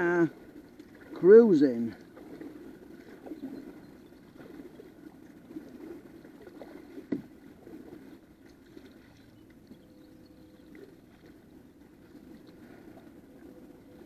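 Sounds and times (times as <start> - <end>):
paddle splashing in water: 0.0 - 14.0.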